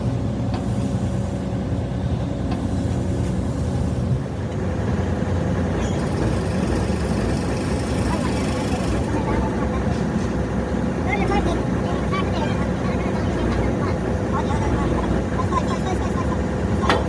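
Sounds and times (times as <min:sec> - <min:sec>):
engine running with low rumble: 0:00.0 - 0:17.0.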